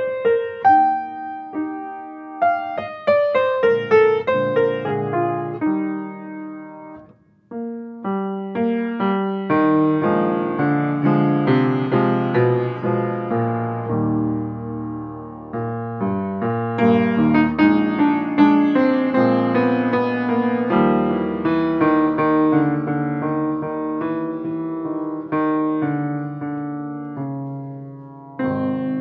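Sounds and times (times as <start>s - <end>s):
grand piano playing: 0.0s - 29.0s.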